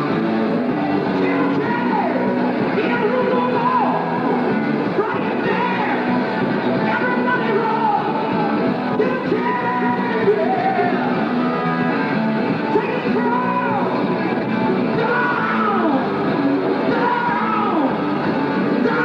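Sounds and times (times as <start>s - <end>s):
rock song with singing: 0.0s - 19.0s.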